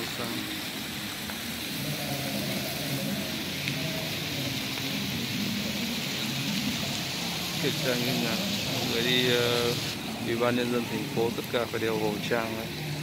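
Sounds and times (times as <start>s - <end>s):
faint distant crowd voices: 0.0s - 13.0s
traffic hum: 0.0s - 13.0s.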